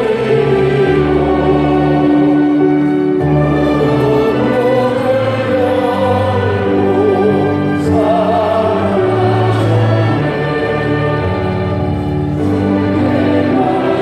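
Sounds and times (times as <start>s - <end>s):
church singing with vibrato: 0.0s - 14.0s
instrumental accompaniment: 0.0s - 14.0s.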